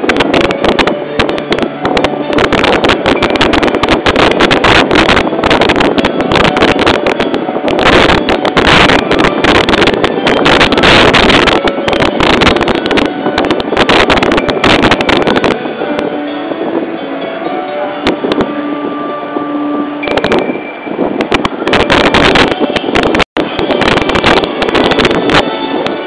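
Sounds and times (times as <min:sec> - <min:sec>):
wind buffeting on microphone: 0:00.0 - 0:26.0.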